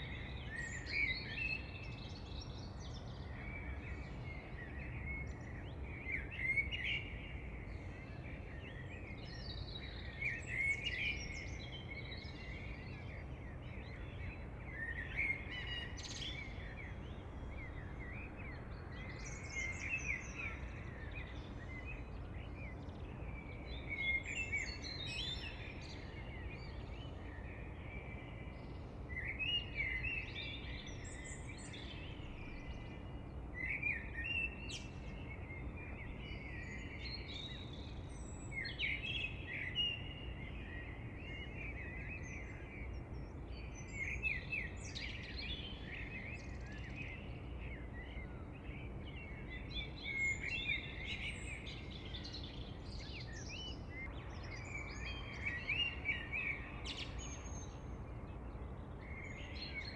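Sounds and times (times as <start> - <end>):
low outdoor background hum: 0.0 - 59.9
songbirds singing and chirping: 0.0 - 59.9.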